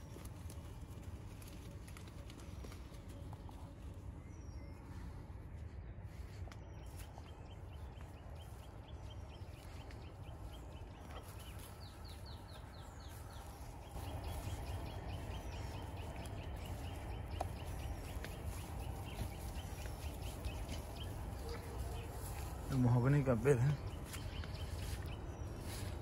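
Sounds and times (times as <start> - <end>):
birds chirping: 0.0 - 26.0
steady low rumble: 0.0 - 26.0.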